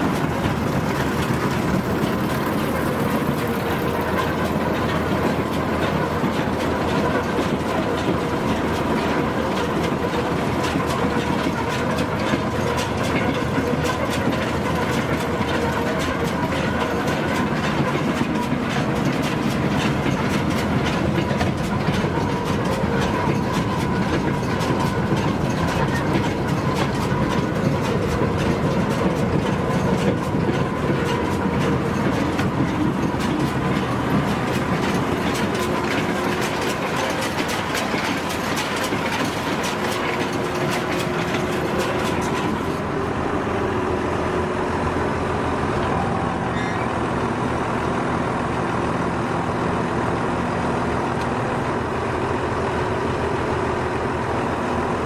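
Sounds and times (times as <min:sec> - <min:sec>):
round baler running: 0:00.0 - 0:55.0.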